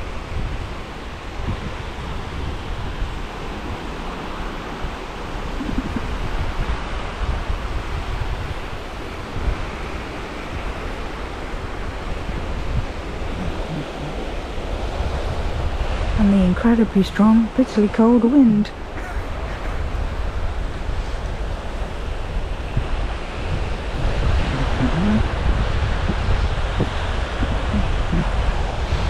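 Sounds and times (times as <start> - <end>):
sea waves breaking on shore: 0.0 - 29.0
wind buffeting microphone: 0.0 - 29.0.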